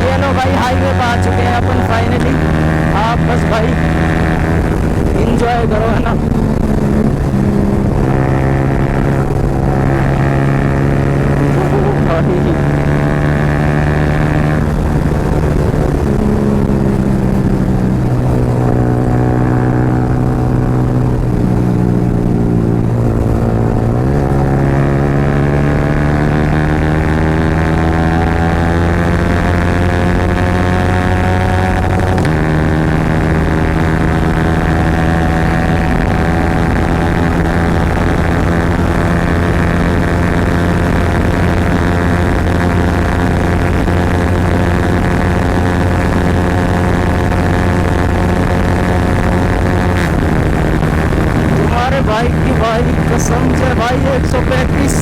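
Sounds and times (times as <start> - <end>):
motorcycle engine running loud: 0.0 - 55.0.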